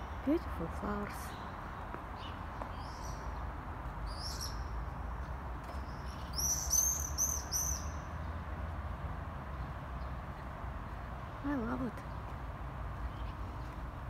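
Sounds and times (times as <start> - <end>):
small birds chirping: 0.0 - 8.5, 9.4 - 14.0.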